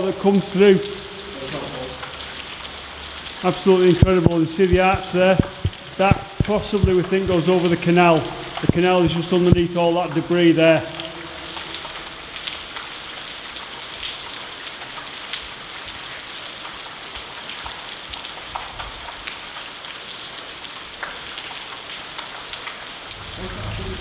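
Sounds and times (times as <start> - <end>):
water splashing onto tunnel floor: 0.0 - 24.0.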